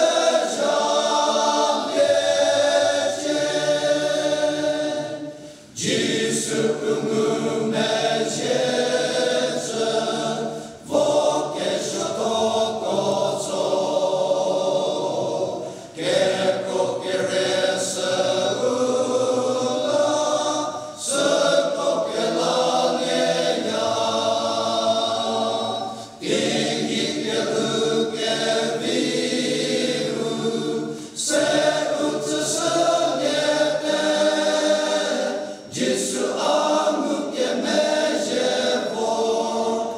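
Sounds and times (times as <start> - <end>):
men's choir singing a hymn: 0.0 - 39.9.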